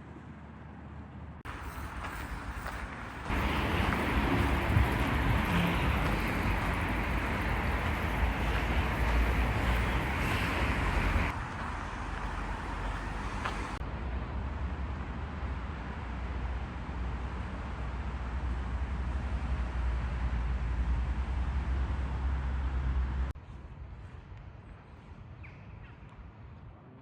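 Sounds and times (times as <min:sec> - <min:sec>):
wind rumble and hiss on microphone: 0:00.0 - 0:27.0.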